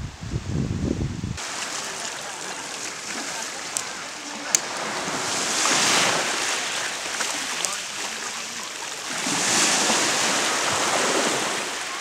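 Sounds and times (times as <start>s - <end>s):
sea waves washing ashore: 1.4s - 12.0s.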